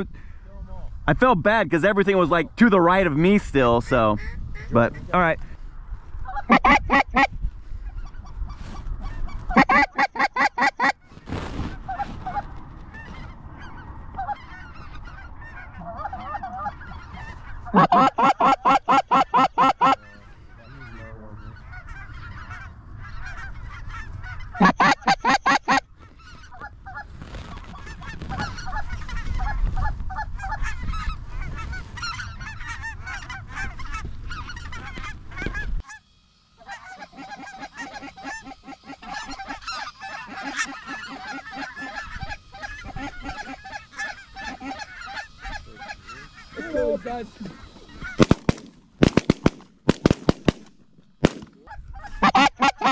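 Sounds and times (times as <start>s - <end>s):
flock of geese honking: 3.3s - 49.2s, 51.2s - 52.9s.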